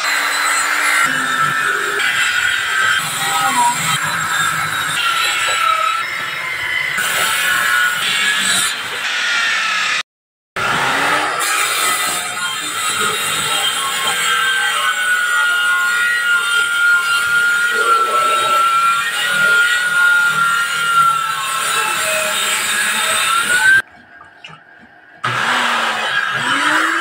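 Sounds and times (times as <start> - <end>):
circular saw cutting wood: 0.0 - 10.0, 10.6 - 24.6, 25.2 - 27.0.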